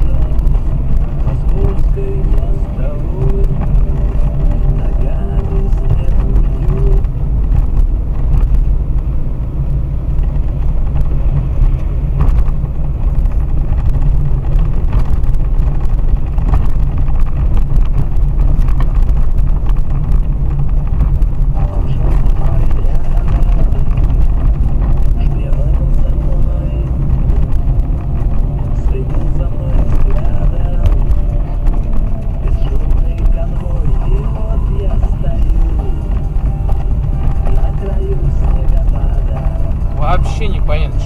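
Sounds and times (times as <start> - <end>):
car knocks and rattles: 0.0 - 41.0
tyres and engine rumbling: 0.0 - 41.0.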